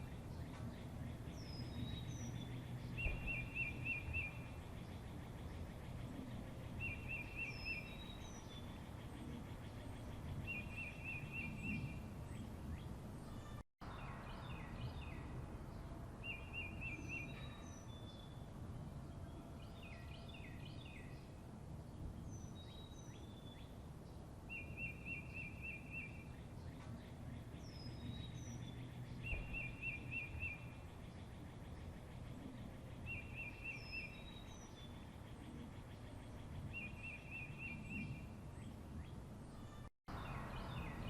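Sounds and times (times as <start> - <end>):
birds whistling and chirping: 0.0 - 15.3, 16.2 - 18.5, 22.2 - 23.8, 24.5 - 41.0.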